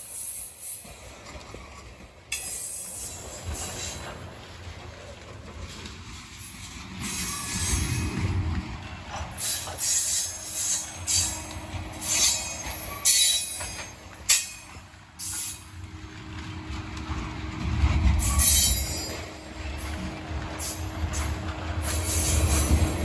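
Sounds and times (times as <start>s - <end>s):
wheel screeches and clacks: 0.0s - 4.4s, 5.2s - 23.0s
train wheels rumbling on rails: 0.0s - 23.0s.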